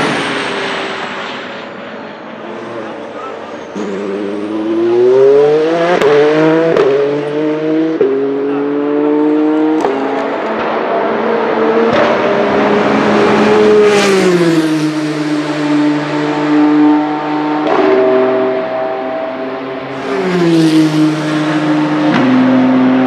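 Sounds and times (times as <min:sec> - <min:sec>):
race car engine accelerating: 0:02.1 - 0:23.0.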